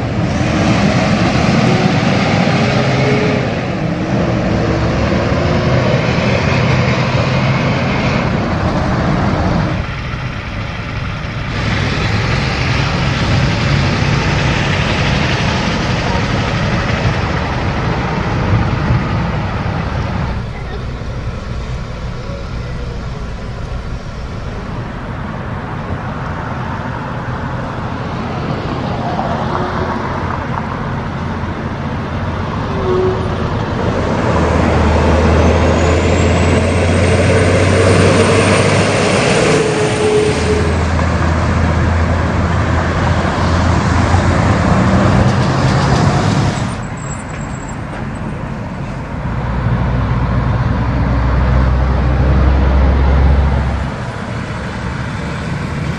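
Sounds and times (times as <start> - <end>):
road traffic: 0.0 - 55.9
truck diesel engine running: 0.0 - 55.9.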